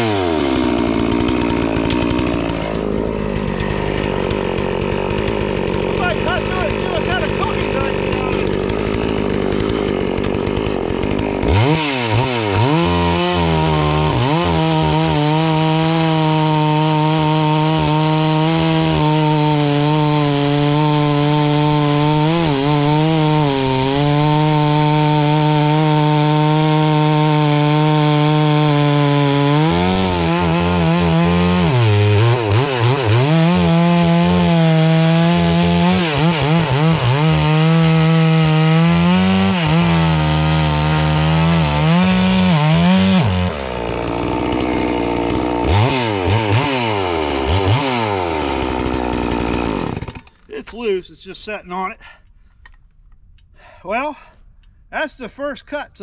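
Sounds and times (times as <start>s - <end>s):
chainsaw cutting log: 0.0s - 51.0s.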